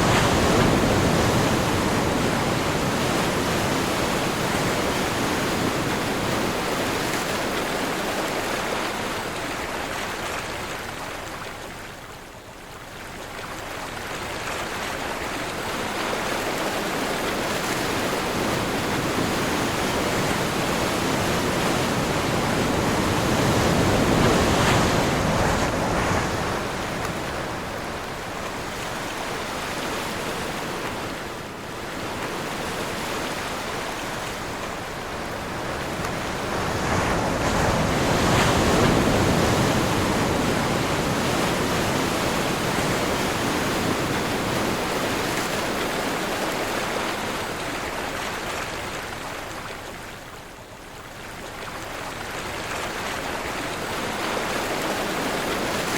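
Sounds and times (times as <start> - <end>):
sea waves breaking: 0.0 - 11.7, 13.4 - 55.9.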